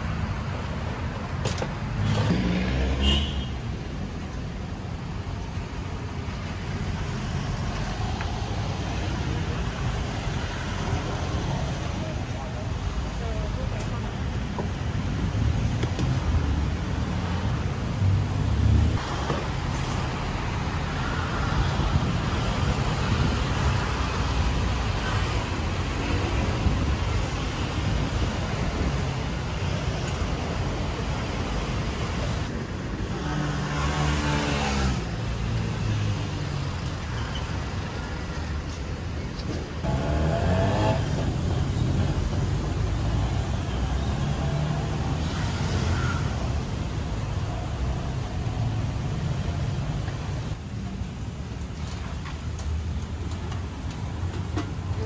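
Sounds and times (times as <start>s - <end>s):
loud vehicles passing: 0.0s - 51.4s
passing cars hum: 0.0s - 51.4s.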